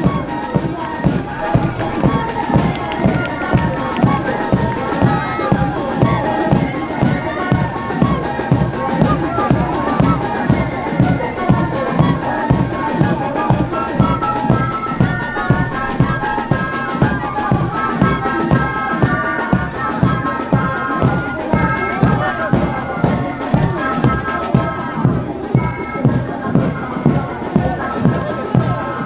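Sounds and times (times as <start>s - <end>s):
steady drum beat: 0.0s - 29.0s
wind instruments playing melody: 0.0s - 29.0s.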